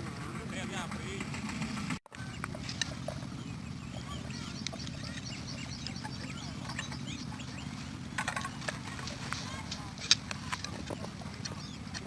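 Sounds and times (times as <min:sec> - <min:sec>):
steady low hum: 0:00.0 - 0:12.0
small birds chirping: 0:02.1 - 0:12.0.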